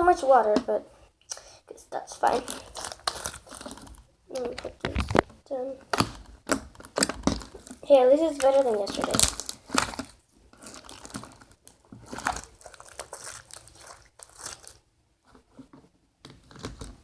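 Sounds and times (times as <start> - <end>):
slime squelching and crackling: 0.0 - 0.8, 1.7 - 14.9.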